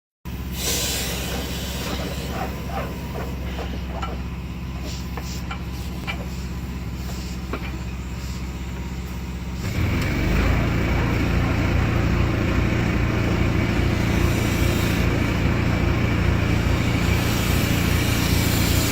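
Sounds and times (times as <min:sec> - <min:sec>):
steady motor hum: 0:00.3 - 0:18.9
motor with high whine: 0:00.9 - 0:18.9.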